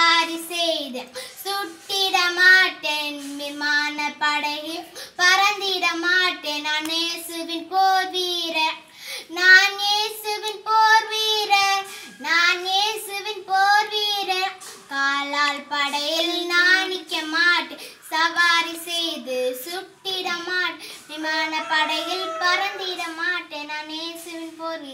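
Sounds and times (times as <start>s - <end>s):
girl singing unaccompanied: 0.0s - 24.9s.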